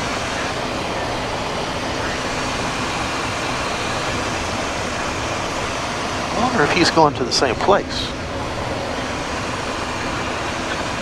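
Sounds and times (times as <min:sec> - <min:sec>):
airflow over airframe: 0:00.0 - 0:11.0
jet engines humming: 0:00.0 - 0:11.0.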